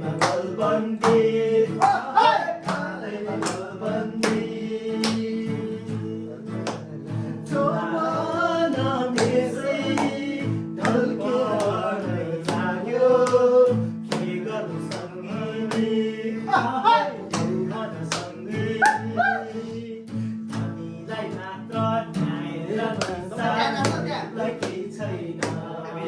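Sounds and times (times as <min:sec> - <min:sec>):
person singing folk song: 0:00.0 - 0:26.0
strummed acoustic guitar: 0:00.0 - 0:26.0.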